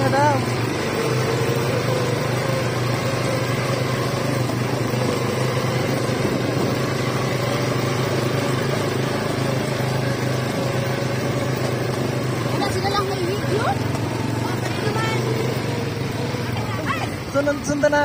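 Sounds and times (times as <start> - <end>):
atv engines droning: 0.0 - 18.0.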